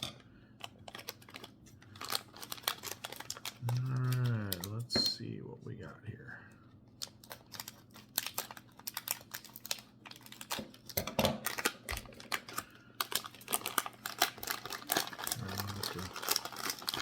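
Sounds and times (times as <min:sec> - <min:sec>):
packaging crinkling: 0:00.6 - 0:04.8, 0:06.9 - 0:17.0.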